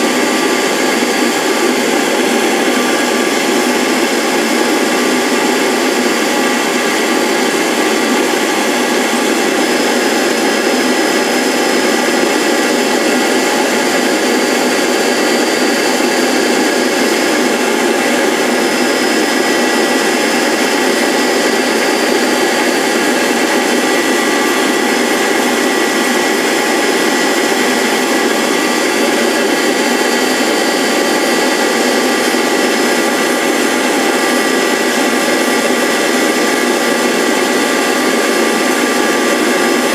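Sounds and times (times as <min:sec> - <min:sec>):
lathe cutter with high whine: 0:00.0 - 0:39.9.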